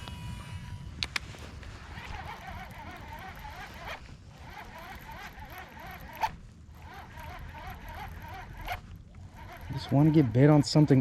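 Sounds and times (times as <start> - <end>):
fishing reel whirring: 0.0 - 11.0
sharp reel click: 1.9 - 11.0.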